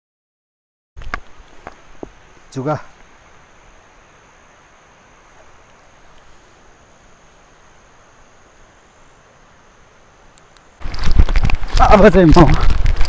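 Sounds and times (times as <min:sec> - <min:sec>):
soft background hiss: 0:01.0 - 0:13.0.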